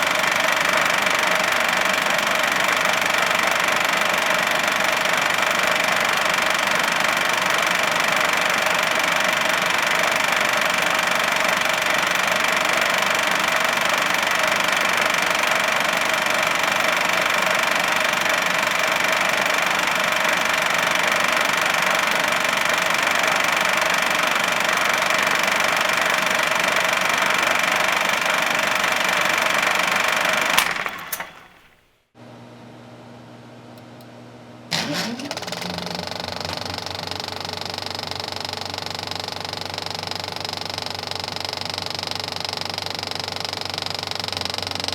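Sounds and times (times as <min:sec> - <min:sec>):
film projector rattling and whining: 0:00.0 - 0:32.1, 0:34.7 - 0:44.9.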